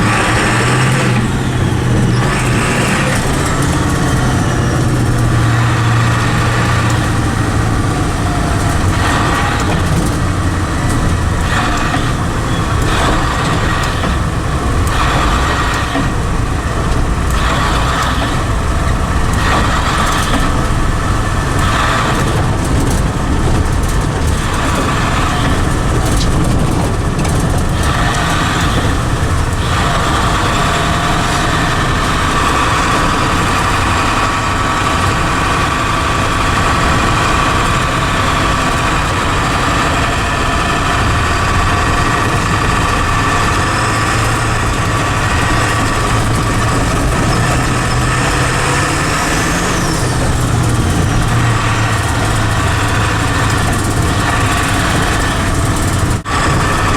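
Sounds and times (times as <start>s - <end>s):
diesel truck engine running: 0.0s - 56.9s.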